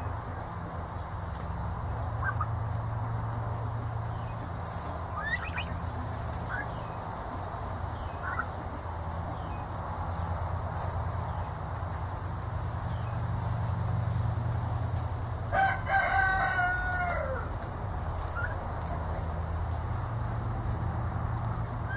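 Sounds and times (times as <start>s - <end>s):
young turkeys trilling: 0.0s - 21.9s.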